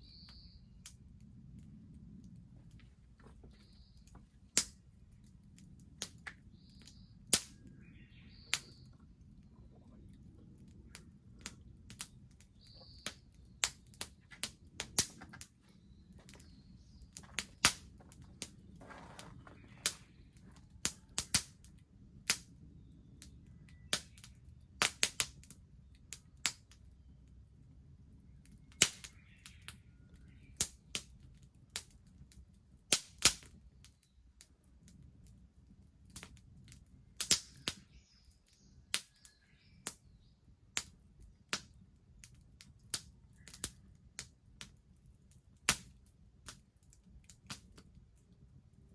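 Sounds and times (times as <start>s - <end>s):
low rumble of burning fire: 0.0s - 48.9s
bonfire crackling and popping: 0.1s - 48.9s.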